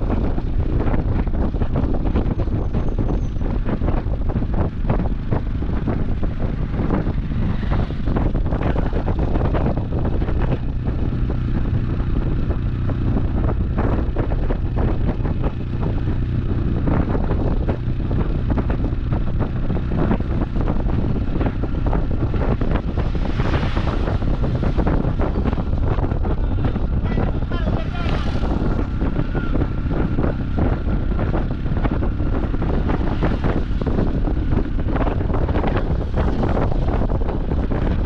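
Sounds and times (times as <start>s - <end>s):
vehicle engine hum: 0.0s - 38.0s
wind buffeting microphone: 0.0s - 38.0s.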